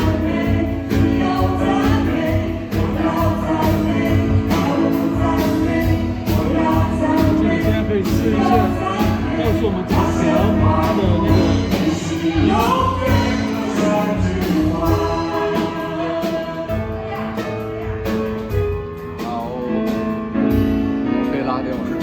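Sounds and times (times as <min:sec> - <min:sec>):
singers singing worship song: 0:00.0 - 0:18.1
steady drum beat: 0:00.0 - 0:22.0.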